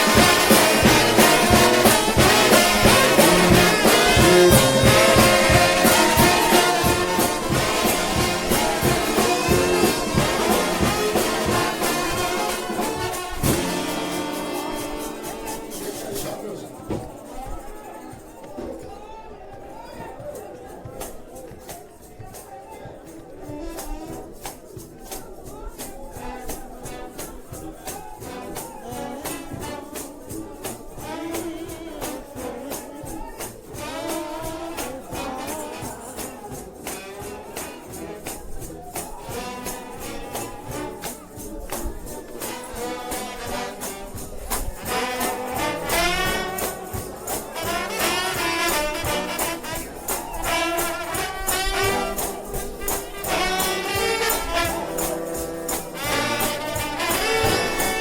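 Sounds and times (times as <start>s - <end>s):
tambourine and cymbal strikes: 0.0s - 17.2s, 23.4s - 58.0s
brass band playing: 0.0s - 18.1s, 23.0s - 58.0s.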